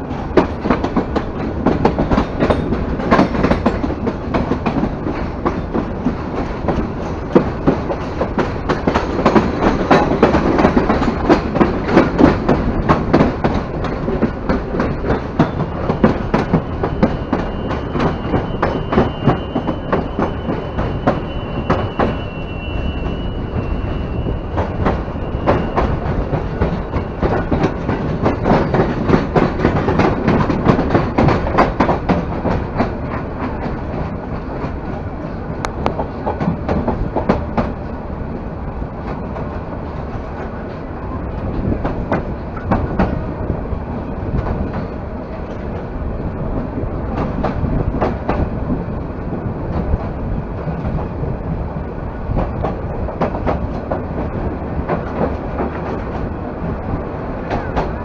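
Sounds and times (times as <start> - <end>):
wheels clacking over rail joints: 0.0 - 38.0, 39.0 - 58.0
train rumbling: 0.0 - 58.0.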